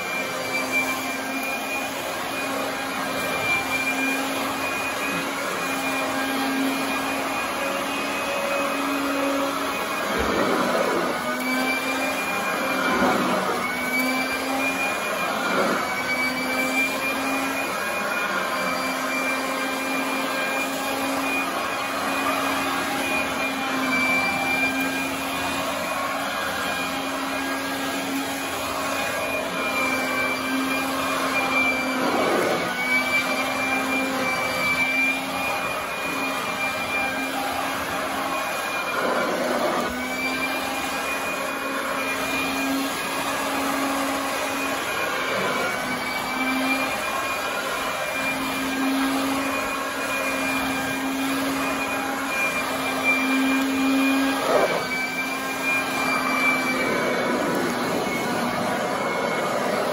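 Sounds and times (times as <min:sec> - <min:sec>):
upright vacuum running on carpet: 0:00.0 - 0:59.9.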